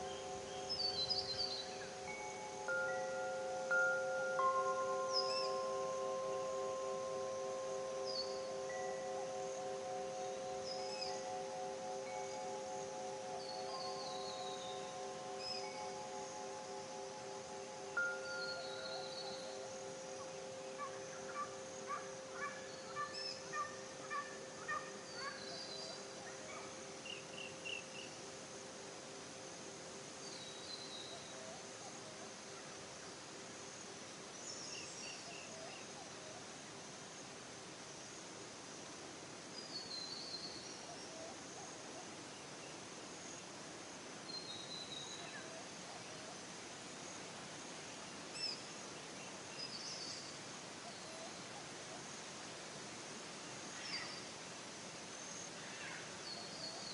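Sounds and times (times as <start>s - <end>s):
faint steady ringing tone: 0.0s - 56.9s
soft steady hiss: 0.0s - 56.9s.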